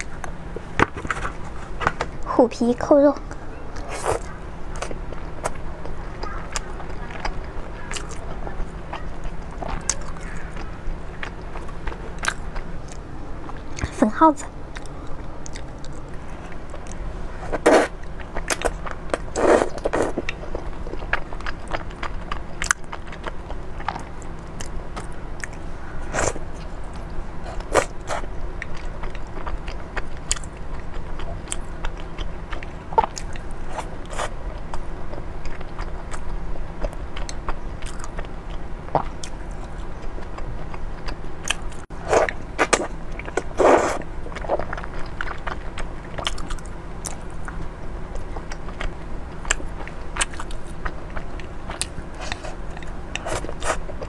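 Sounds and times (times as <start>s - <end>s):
person chewing noodles: 3.3s - 13.9s, 14.7s - 54.0s.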